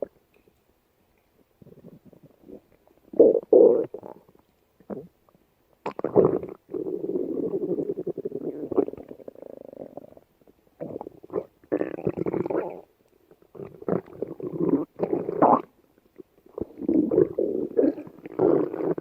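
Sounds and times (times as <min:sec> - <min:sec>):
stomach growling: 0:01.6 - 0:05.2, 0:05.8 - 0:19.0.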